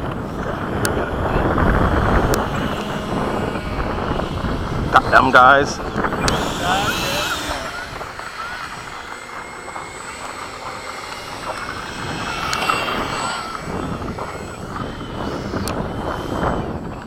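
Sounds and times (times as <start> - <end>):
model jet whine passing overhead: 0.0 - 17.0.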